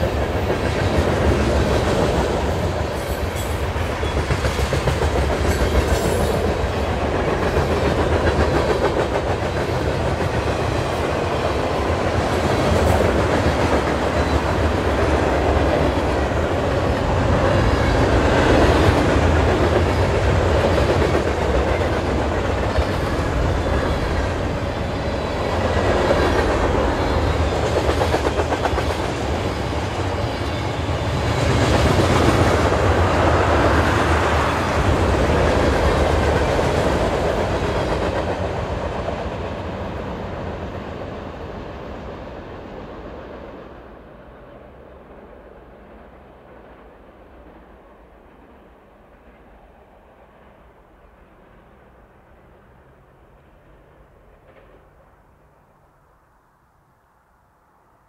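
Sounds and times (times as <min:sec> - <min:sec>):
train wheels rolling on rails: 0:00.0 - 0:55.5.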